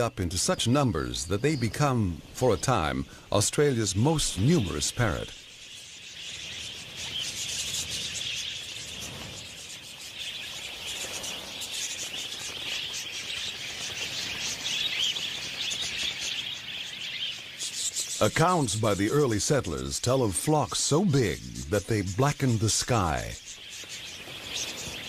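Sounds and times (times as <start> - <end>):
budgerigars chirping and chattering: 0.0 - 25.0.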